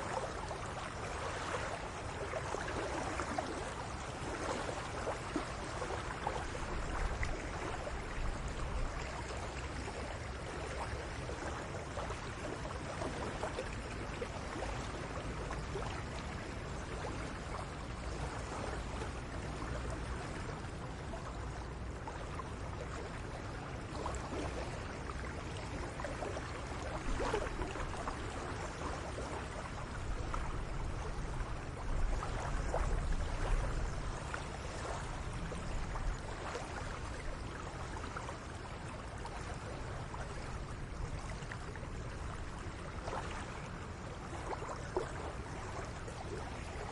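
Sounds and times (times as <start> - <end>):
running water: 0.0 - 46.9.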